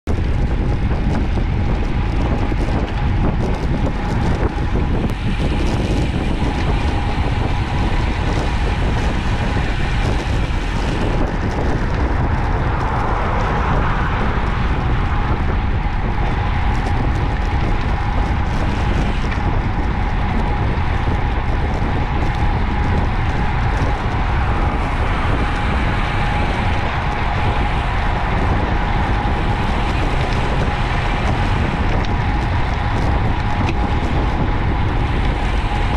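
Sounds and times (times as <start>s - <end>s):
road noise: 0.0s - 35.9s
wind rushing over microphone: 0.0s - 35.9s.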